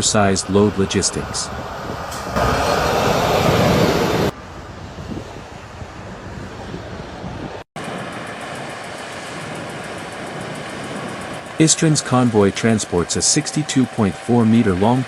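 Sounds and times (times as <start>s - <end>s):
vehicle rumble: 0.0s - 14.7s
outdoor noise: 0.0s - 15.0s.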